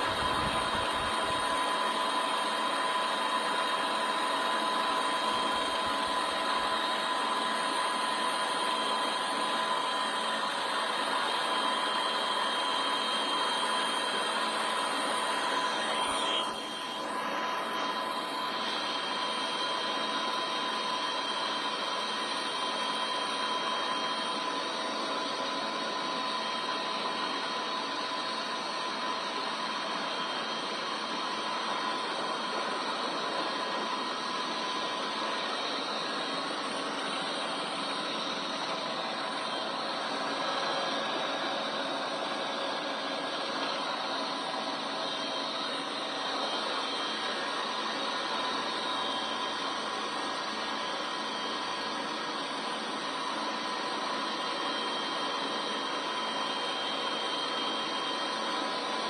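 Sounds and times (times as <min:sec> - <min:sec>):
helicopter drone and whine: 0:00.0 - 0:59.0.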